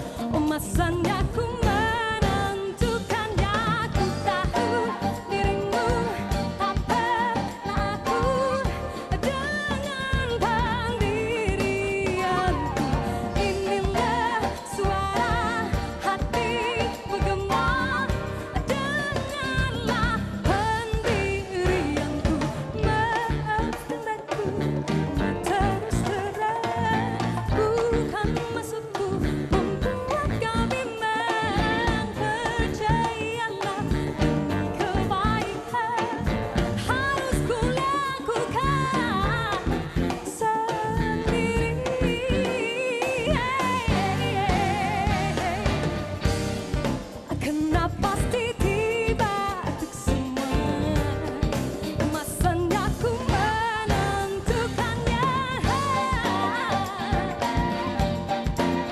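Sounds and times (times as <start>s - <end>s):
band playing: 0.0s - 58.9s
drum kit and cymbals: 0.0s - 58.9s
woman singing pop song: 0.0s - 58.9s.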